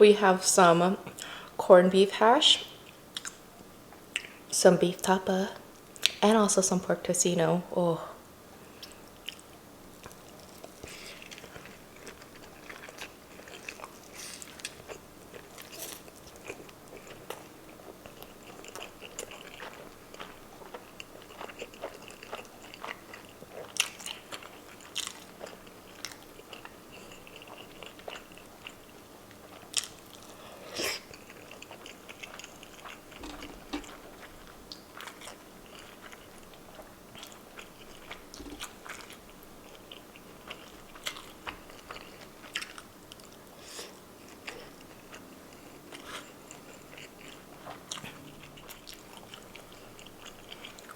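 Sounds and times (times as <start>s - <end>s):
person chewing food: 8.6s - 50.9s.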